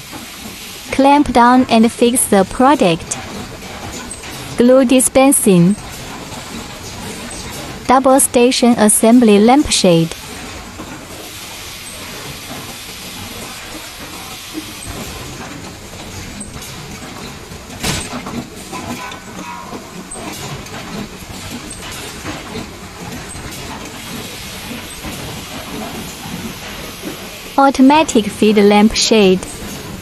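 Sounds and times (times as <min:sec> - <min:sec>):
machine running steadily: 0:00.0 - 0:30.0.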